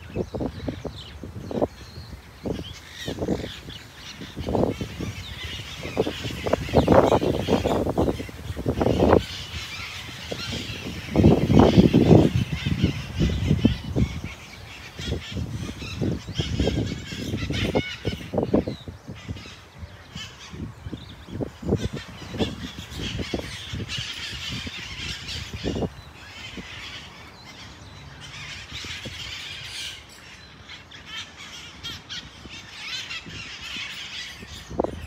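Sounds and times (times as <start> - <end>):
parakeets calling: 0.0 - 35.0.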